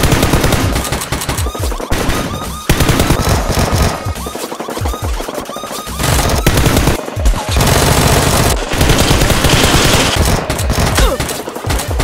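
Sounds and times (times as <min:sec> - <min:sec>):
automatic gunfire: 0:00.0 - 0:05.1, 0:05.9 - 0:12.0
background music: 0:00.0 - 0:12.0.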